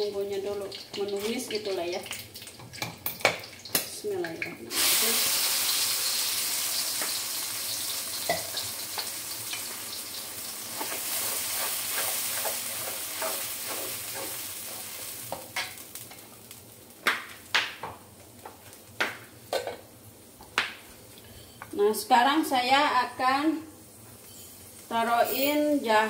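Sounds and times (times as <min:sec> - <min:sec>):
spice paste sizzling in oil: 0:00.0 - 0:26.0.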